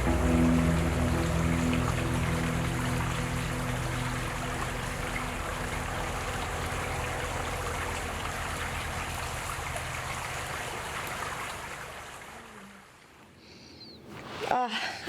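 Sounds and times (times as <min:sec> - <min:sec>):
stream flowing: 0:00.0 - 0:13.2.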